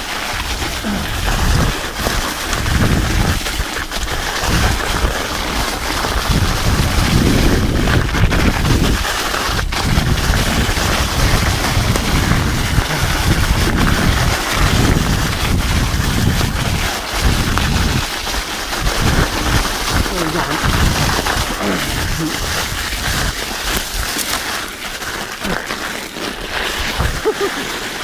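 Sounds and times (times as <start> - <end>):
wind rumble on microphone: 0.0 - 24.4, 26.4 - 27.5
studded tires crackling on ice: 0.0 - 28.0.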